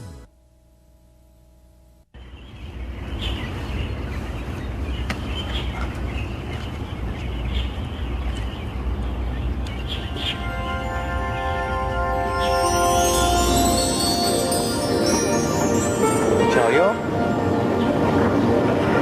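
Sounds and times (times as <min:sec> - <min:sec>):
birds chirping: 0:02.2 - 0:18.7.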